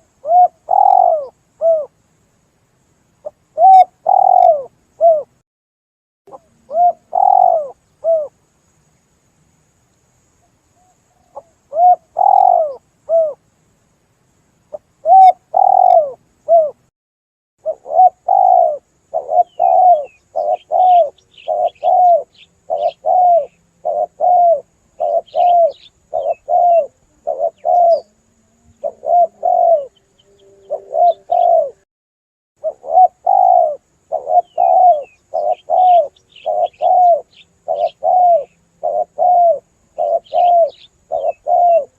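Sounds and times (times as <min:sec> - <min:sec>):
dove cooing: 0:00.0 - 0:01.9, 0:03.2 - 0:05.3, 0:06.3 - 0:08.4, 0:10.8 - 0:13.4, 0:14.7 - 0:16.8, 0:17.6 - 0:31.8, 0:32.6 - 0:41.9
small birds chirping: 0:00.0 - 0:05.4, 0:06.3 - 0:16.9, 0:17.6 - 0:31.8, 0:32.6 - 0:41.9.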